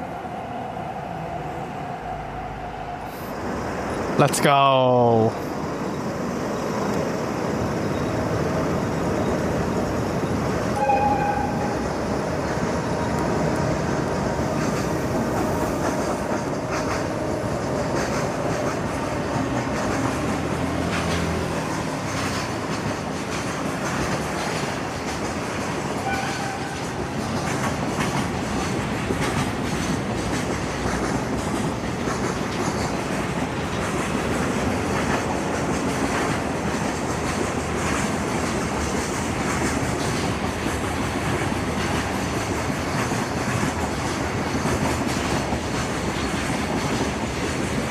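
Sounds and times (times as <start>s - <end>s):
freight train wheels clattering: 6.0s - 47.9s.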